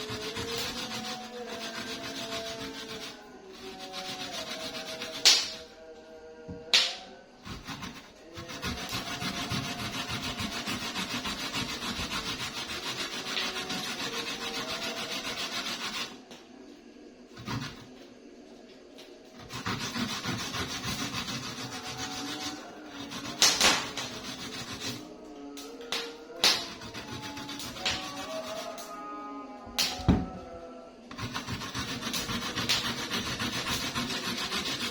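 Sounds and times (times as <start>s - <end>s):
ginger scraped on a grater: 0.0s - 5.9s, 7.4s - 16.2s, 17.3s - 18.1s, 19.4s - 25.4s, 26.0s - 29.1s, 31.1s - 34.9s.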